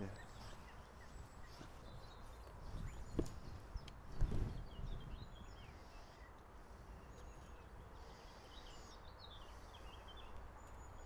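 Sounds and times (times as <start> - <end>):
songbird chirps and trills: 0.0 - 11.0.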